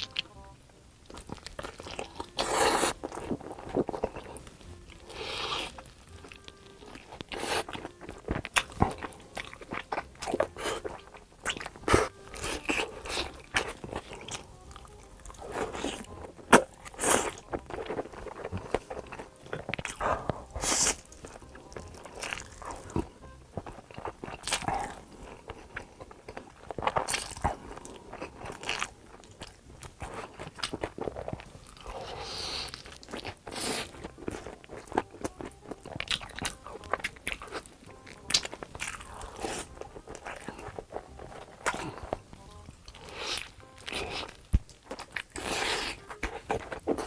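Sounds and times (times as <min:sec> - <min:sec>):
person crunching and chewing food: 0:00.0 - 0:47.0.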